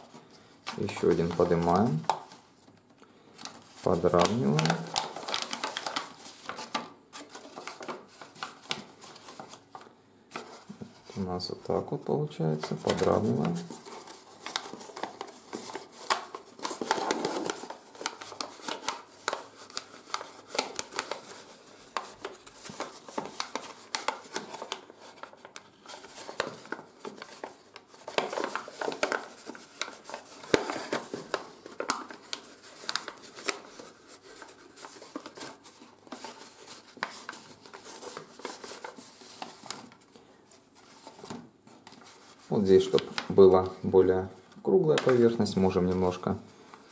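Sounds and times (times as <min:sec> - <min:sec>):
paper crinkling and crackling: 0:00.0 - 0:02.5, 0:03.3 - 0:46.9.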